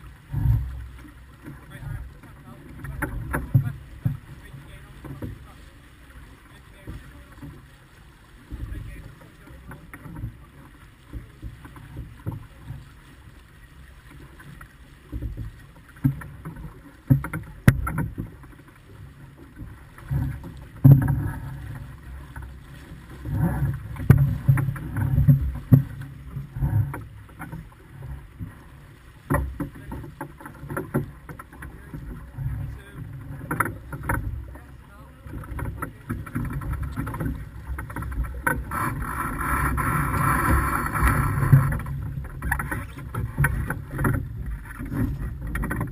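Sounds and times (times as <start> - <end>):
water rushing along hull: 0.0 - 45.9.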